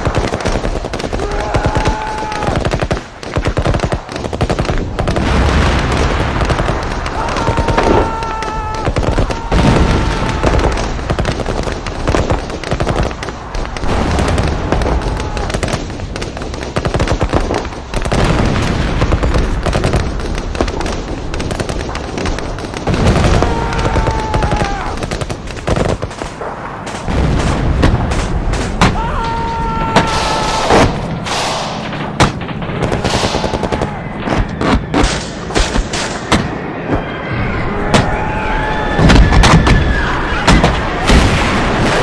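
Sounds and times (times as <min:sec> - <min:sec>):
rifle and machine-gun fire: 0:00.0 - 0:29.0, 0:30.0 - 0:36.6
explosions booming: 0:00.0 - 0:42.0.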